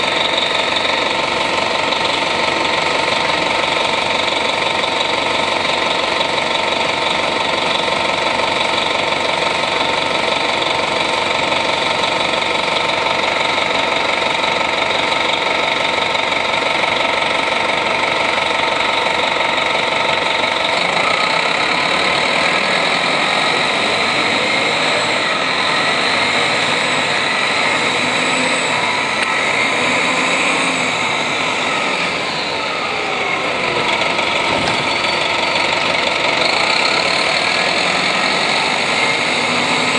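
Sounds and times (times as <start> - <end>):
bus diesel engine running: 0.0 - 39.9
engine whine: 0.0 - 39.9.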